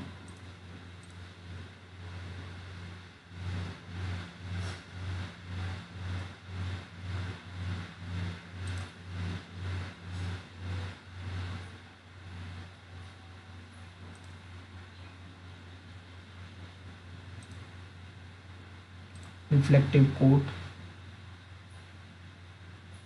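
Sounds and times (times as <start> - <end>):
low machine hum throbbing: 0.0 - 23.0.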